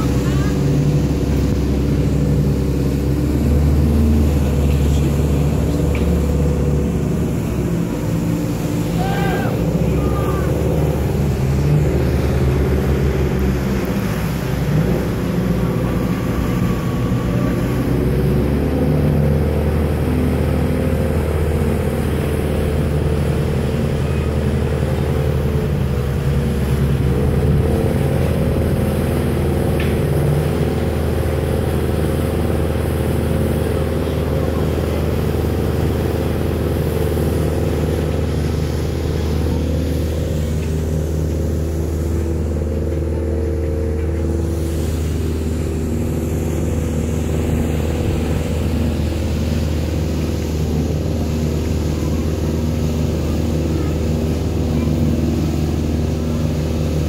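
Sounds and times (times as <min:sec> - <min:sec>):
boat engines droning: 0:00.0 - 0:57.0.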